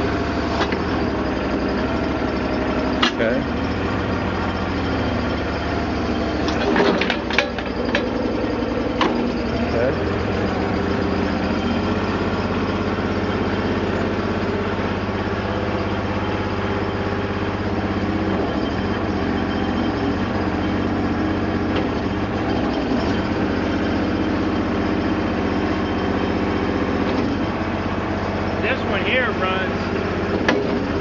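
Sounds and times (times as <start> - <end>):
backhoe engine running: 0.0 - 31.0.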